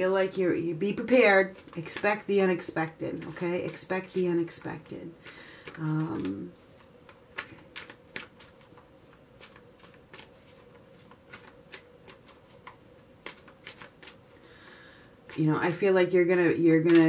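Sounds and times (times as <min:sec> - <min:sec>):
low steady hum: 0:00.0 - 0:17.0
cards being shuffled: 0:01.0 - 0:14.4, 0:16.7 - 0:17.0.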